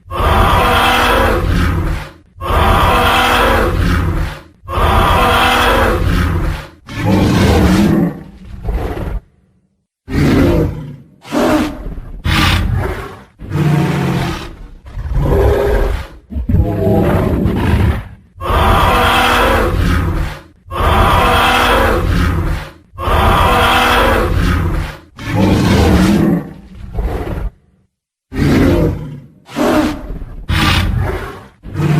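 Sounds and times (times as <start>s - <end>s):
deep dinosaur roars: 0.0s - 9.3s, 10.1s - 27.7s, 28.3s - 31.9s.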